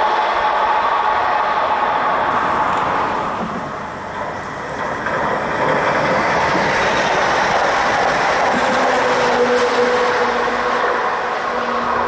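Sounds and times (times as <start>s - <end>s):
electric train approaching: 0.0s - 12.0s.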